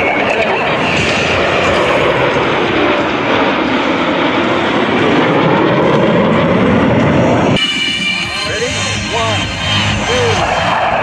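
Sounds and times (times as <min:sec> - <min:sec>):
jets passing overhead: 0:00.0 - 0:11.0.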